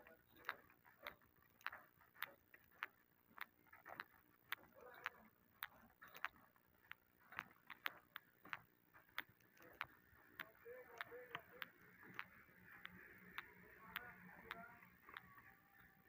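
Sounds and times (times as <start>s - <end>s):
faint sharp clicks: 0.0s - 16.0s.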